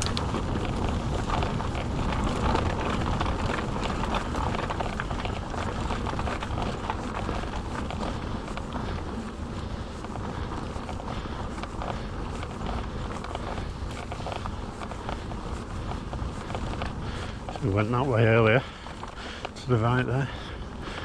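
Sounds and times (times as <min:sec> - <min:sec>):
bike clicks and rattles: 0:00.0 - 0:21.0
bike tyre noise on rough trail: 0:00.0 - 0:21.0
wind buffeting microphone: 0:00.0 - 0:21.0.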